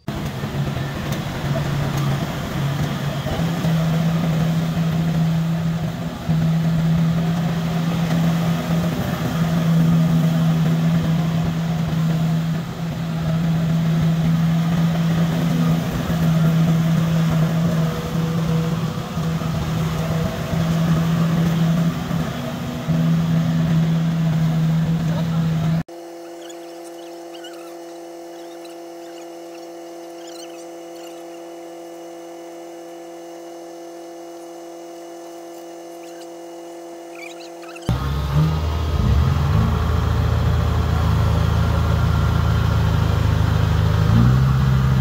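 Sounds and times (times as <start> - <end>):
combine harvester engine droning: 0.0 - 45.0.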